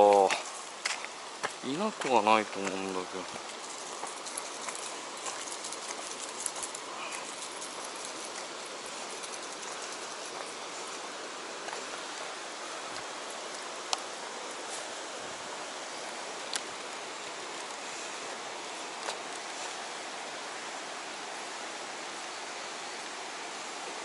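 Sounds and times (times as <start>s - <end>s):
river flowing: 0.0s - 24.0s.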